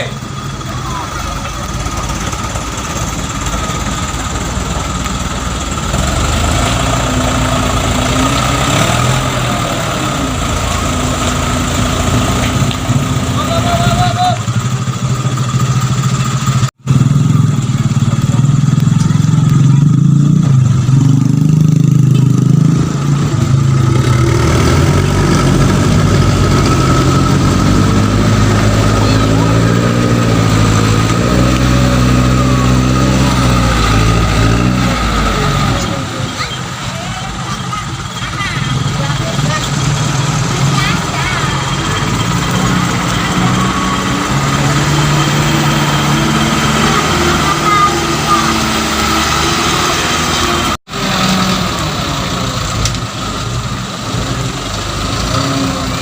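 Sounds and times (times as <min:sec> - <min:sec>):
heavy vehicle engine revving: 0:00.0 - 0:56.0.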